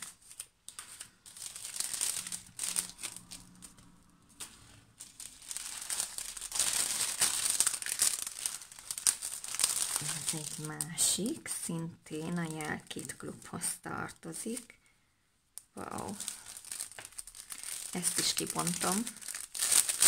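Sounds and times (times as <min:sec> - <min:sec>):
plastic bag crinkling and rustling: 0:00.0 - 0:14.8, 0:15.7 - 0:20.0.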